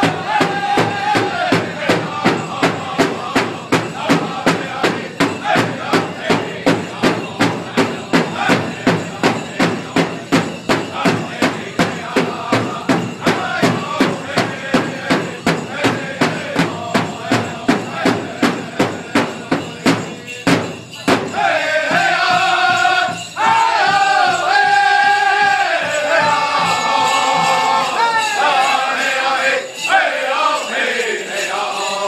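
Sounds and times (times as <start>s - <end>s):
large drum steady beat: 0.0s - 28.8s
group singing: 0.0s - 32.0s.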